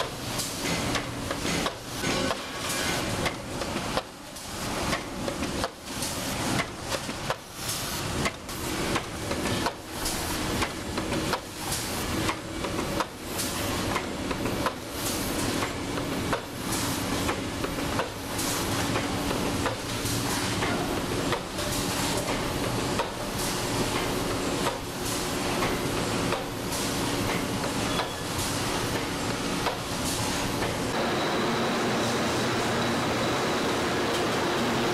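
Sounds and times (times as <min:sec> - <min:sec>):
press machine clattering and clanking: 0:00.0 - 0:30.9.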